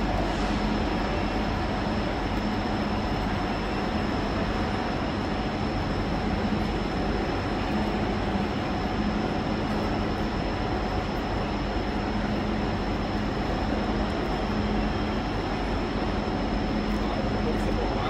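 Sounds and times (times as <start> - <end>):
constant high whine: 0.0 - 18.0
train equipment running: 0.0 - 18.0.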